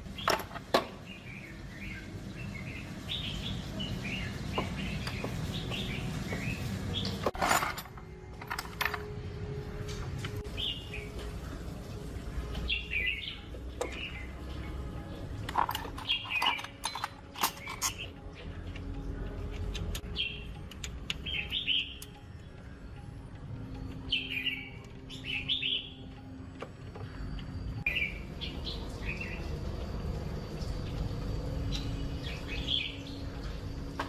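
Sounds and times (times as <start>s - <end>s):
birds chirping: 0.0s - 7.4s, 10.3s - 34.0s.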